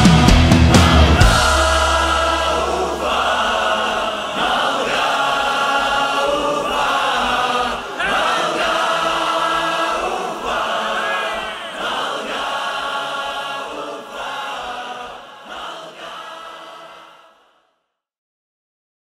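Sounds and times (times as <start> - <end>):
choir singing held notes: 0.0 - 17.5.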